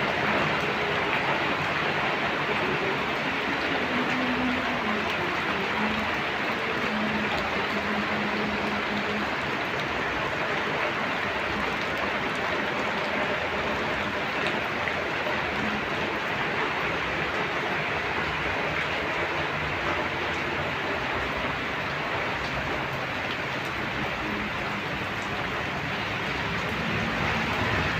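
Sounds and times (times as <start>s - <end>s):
heavy rain falling: 0.0s - 27.9s.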